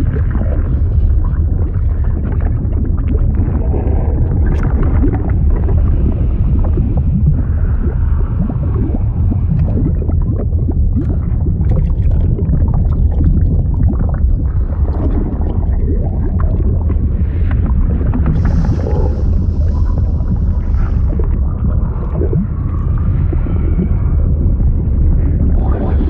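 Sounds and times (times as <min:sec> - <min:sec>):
deep rumble of moving water: 0:00.0 - 0:26.0
water bubbling and gurgling: 0:00.0 - 0:26.0.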